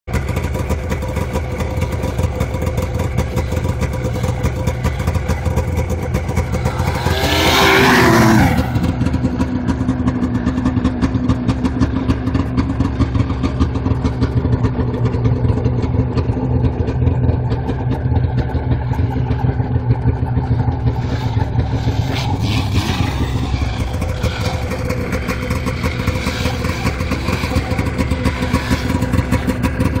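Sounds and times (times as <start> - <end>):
snowmobile engine running: 0.1 - 30.0.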